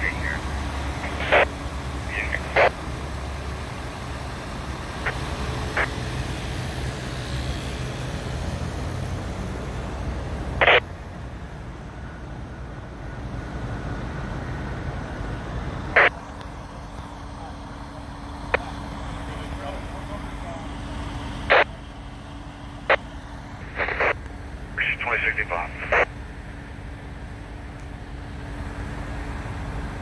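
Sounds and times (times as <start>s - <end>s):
vehicle engines idling: 0.0s - 30.0s.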